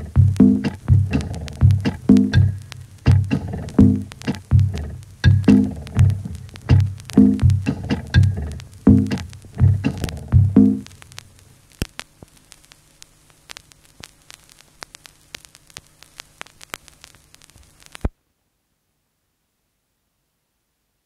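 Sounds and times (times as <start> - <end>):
record surface crackle: 0.0 - 18.5
faint low hum: 0.0 - 21.0.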